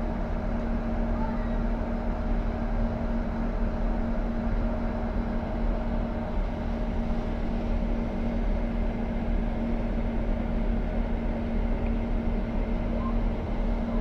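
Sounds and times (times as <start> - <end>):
constant low hum: 0.0 - 14.0
train rumble inside carriage: 0.0 - 14.0.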